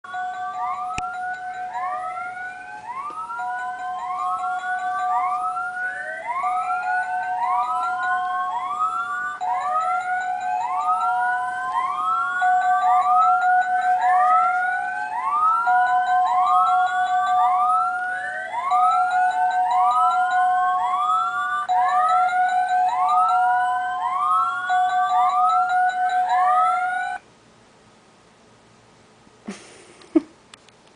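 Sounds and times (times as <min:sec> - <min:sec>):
siren alert sound: 0:00.1 - 0:27.2.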